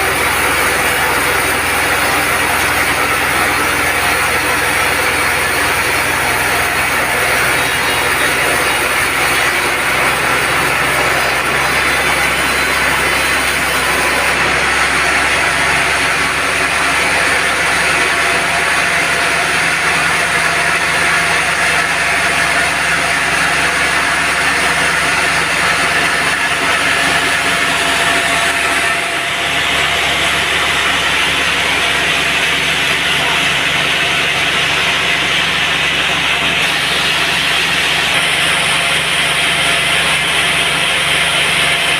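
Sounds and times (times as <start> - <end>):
band sawmill running: 0.0 - 41.9.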